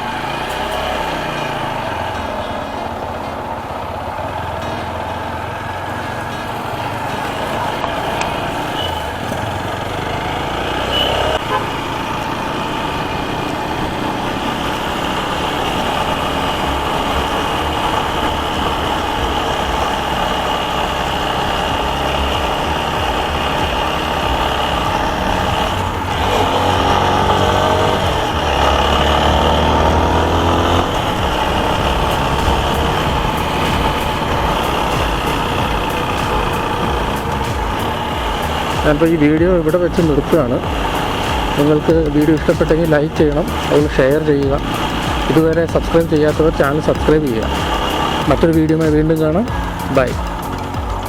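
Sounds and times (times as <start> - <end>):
motorcycle engine running: 0.0 - 51.0
road and wind noise: 0.0 - 51.0.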